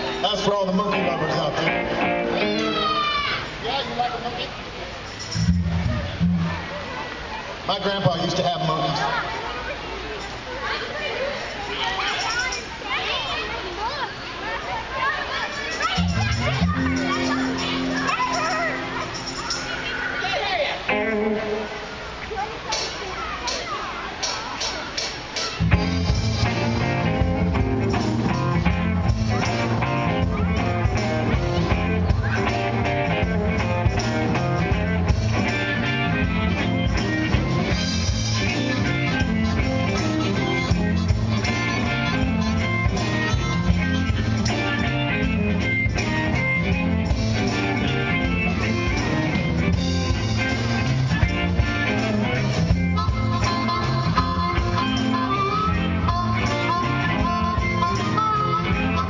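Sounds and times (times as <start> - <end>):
guitar: 0.0 - 59.0
live band playing: 0.0 - 59.0.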